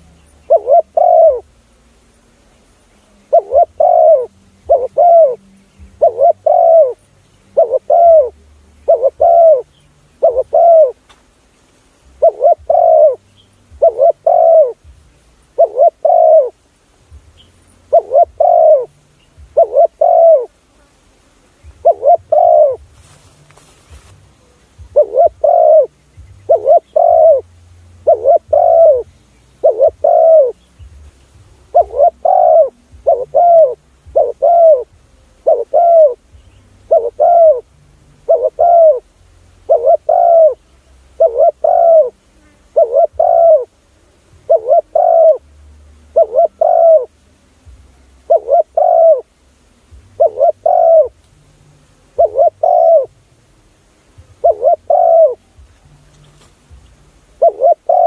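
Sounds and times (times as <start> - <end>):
dove cooing: 0.0 - 1.6, 3.2 - 11.1, 12.1 - 16.7, 17.9 - 20.6, 21.7 - 22.9, 24.0 - 45.5, 46.1 - 49.4, 50.1 - 51.2, 52.0 - 53.2, 54.1 - 56.4, 57.2 - 58.0.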